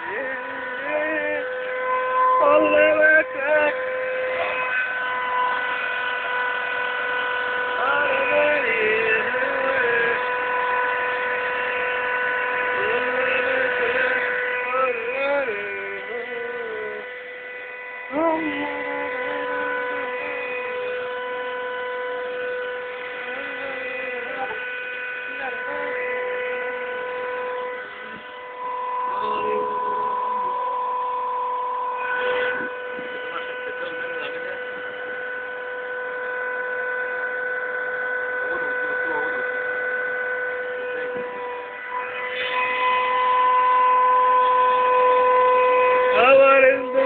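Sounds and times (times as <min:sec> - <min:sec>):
stepper motors whining: 0:00.0 - 0:47.0.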